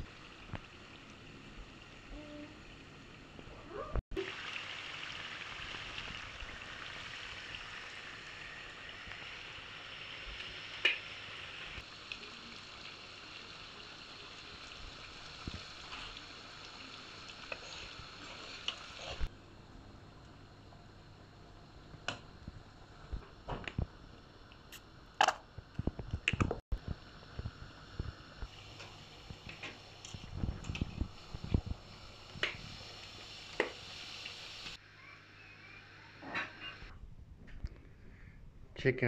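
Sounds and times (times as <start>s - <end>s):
steady kitchen hiss: 0.0s - 36.9s.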